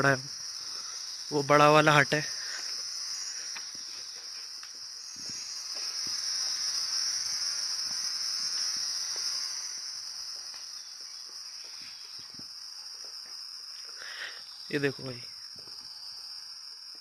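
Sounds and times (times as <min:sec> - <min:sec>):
broad hiss: 0:00.0 - 0:17.0
high-pitched insect chorus: 0:00.0 - 0:17.0.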